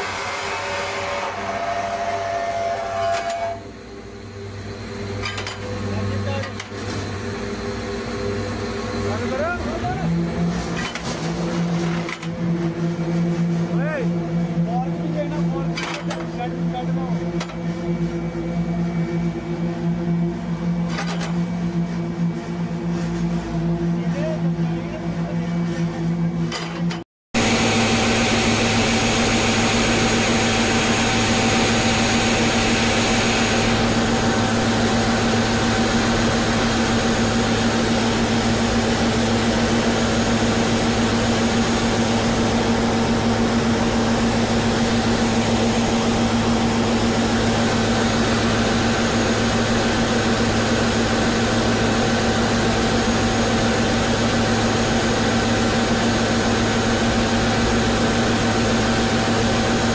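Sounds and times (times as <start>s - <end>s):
paving machinery drone: 0.0s - 59.9s.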